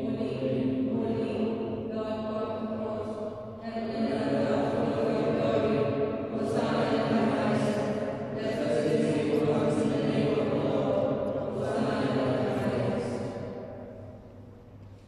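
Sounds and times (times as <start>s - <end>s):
chanted liturgical hymn: 0.0s - 14.3s.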